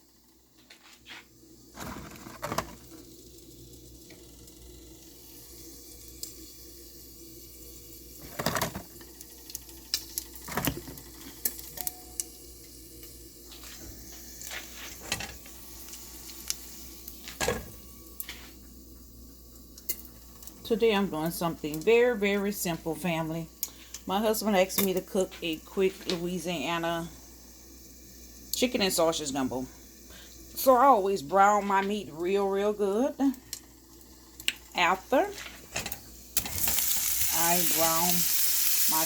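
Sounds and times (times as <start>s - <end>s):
meat sizzling in a pot: 0.0s - 39.0s.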